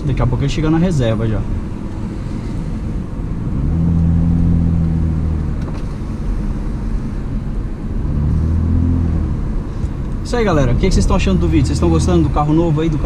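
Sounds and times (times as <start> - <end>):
low exhaust drone: 1.1 - 13.0.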